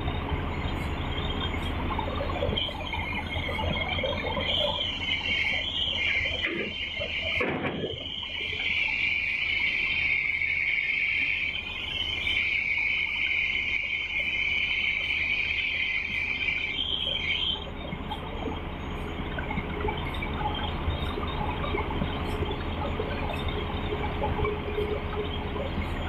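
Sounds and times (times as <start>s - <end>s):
excavator diesel engine rumbling: 0.0s - 26.0s.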